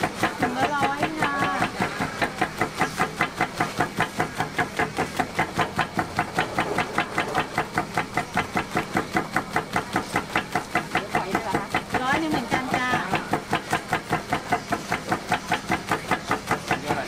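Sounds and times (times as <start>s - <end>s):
press hammer strokes: 0.0s - 17.0s.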